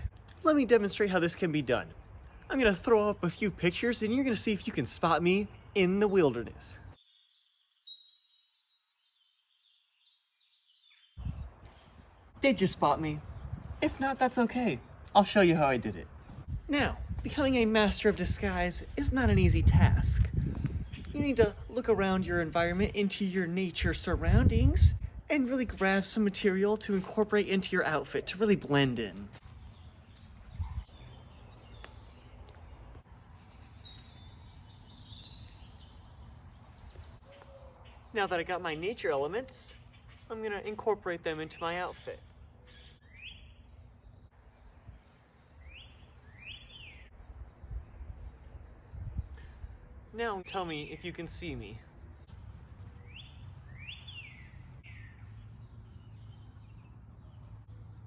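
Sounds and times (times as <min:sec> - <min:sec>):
birds chirping: 0:00.0 - 0:58.0
outdoor background noise: 0:00.0 - 0:58.0.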